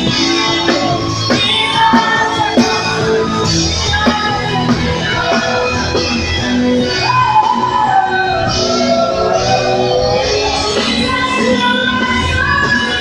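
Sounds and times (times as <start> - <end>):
gospel band accompaniment: 0.0 - 13.0.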